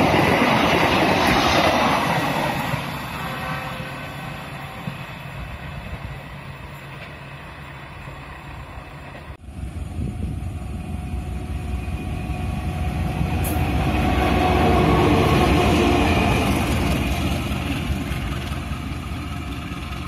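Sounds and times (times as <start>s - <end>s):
diesel locomotive engine rumble: 0.0s - 20.0s
passenger train rumbling away: 0.0s - 20.0s.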